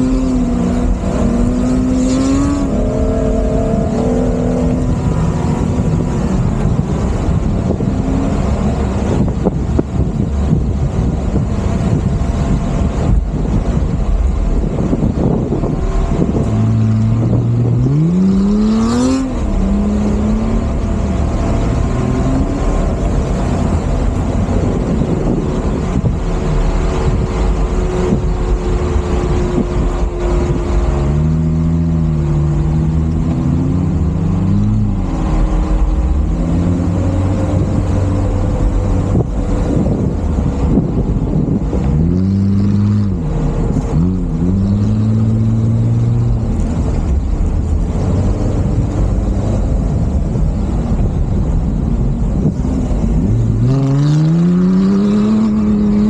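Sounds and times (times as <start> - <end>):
low rumble: 0.0 - 56.0
off-road vehicle engine revving: 0.0 - 56.0.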